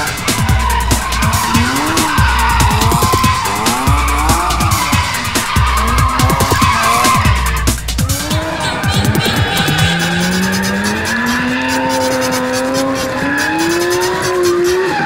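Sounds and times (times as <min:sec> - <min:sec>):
car tyres squealing: 0:00.0 - 0:15.0.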